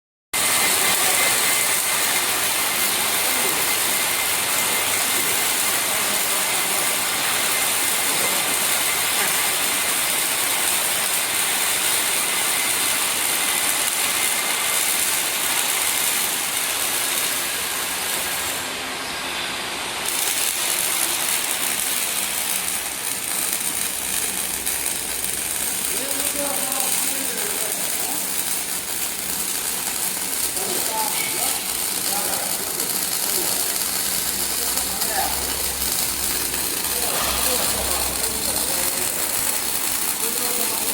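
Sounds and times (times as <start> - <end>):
welding arc hissing: 0.4 - 40.9.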